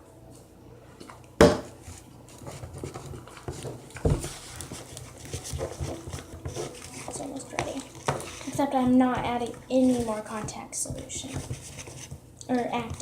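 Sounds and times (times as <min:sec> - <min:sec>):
containers and utensils handled: 0:01.0 - 0:13.0.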